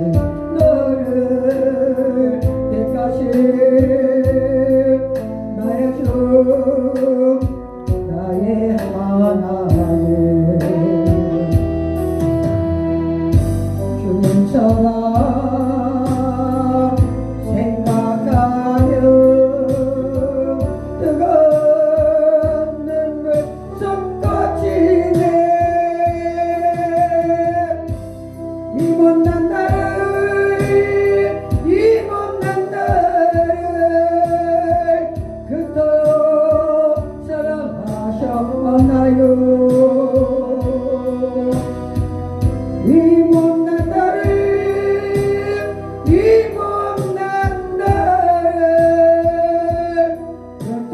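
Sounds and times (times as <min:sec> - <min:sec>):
person singing a hymn: 0:00.0 - 0:28.0, 0:28.7 - 0:50.9
instrumental accompaniment with beat: 0:00.0 - 0:50.9.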